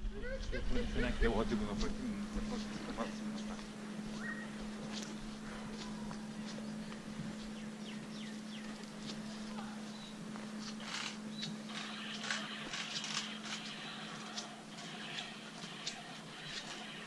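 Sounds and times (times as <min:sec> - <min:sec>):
steady low hum: 0:00.0 - 0:17.0
small birds chirping: 0:01.2 - 0:17.0
crackly clicks and scuffs: 0:01.7 - 0:07.6, 0:08.3 - 0:17.0.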